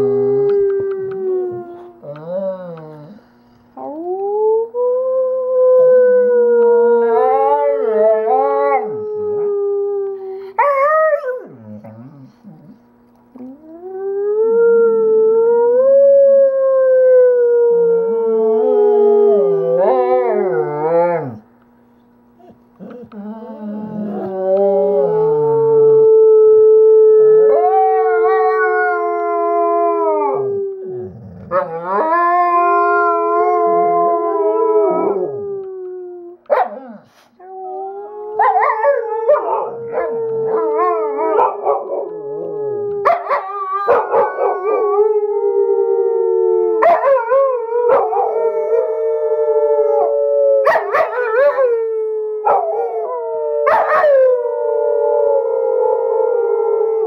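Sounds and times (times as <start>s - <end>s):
dogs howling: 0.0s - 3.2s, 3.8s - 12.8s, 13.7s - 21.4s, 22.8s - 57.0s.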